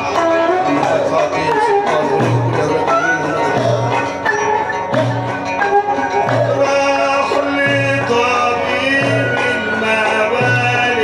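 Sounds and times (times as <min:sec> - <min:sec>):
man singing: 0:00.0 - 0:04.2, 0:06.3 - 0:11.0
bending melody line: 0:00.0 - 0:11.0
frame drum beat: 0:00.0 - 0:11.0.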